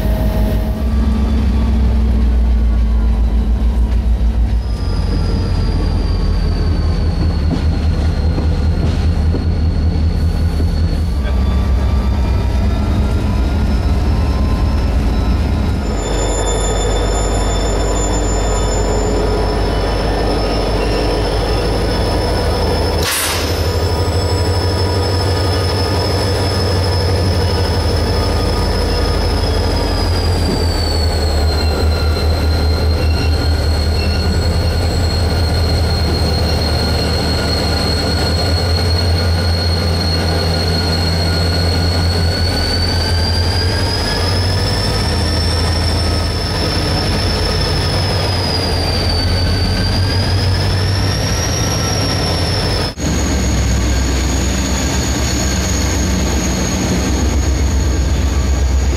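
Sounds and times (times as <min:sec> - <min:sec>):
train wheels rumbling on rails: 0:00.0 - 0:58.9
high-pitched wheel squeal: 0:02.8 - 0:58.9.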